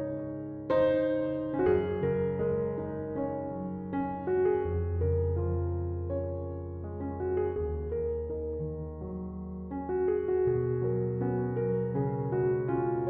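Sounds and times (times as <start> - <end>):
soft slow piano music: 0.0 - 13.0.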